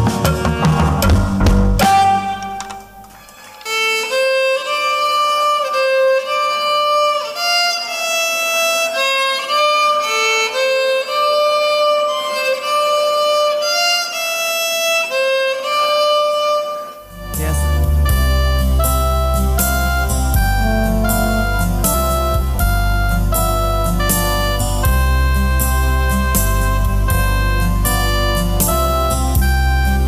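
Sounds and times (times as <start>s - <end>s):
solo violin melody: 3.6s - 19.4s, 20.4s - 30.0s.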